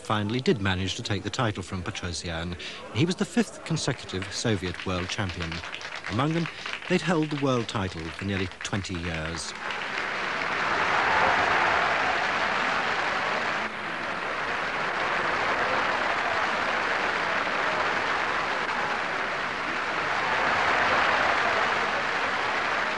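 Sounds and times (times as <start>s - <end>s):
audience applauding: 3.0s - 22.9s.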